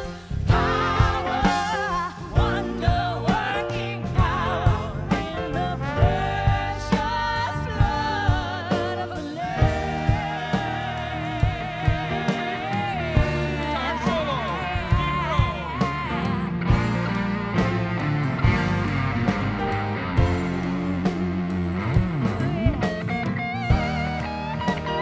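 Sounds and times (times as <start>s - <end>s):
live band music: 0.0s - 25.0s
singer holding long notes: 0.0s - 25.0s
vocal trio singing: 0.0s - 25.0s.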